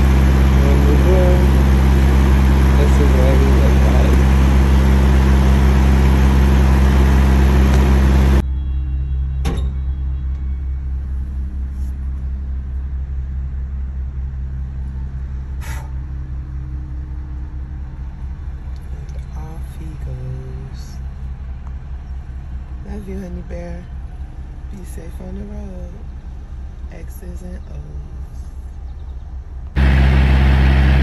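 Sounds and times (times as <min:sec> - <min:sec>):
low rumble inside car: 0:00.0 - 0:31.0
truck diesel engine idling: 0:00.0 - 0:31.0.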